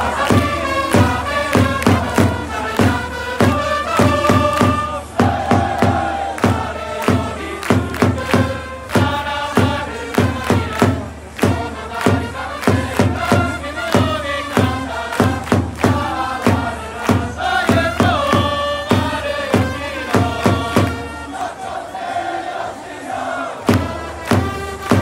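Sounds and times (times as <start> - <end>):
drum beat: 0.0 - 21.2, 23.6 - 25.0
trumpets playing: 0.0 - 22.1, 23.1 - 25.0
crowd chanting in unison: 0.0 - 25.0.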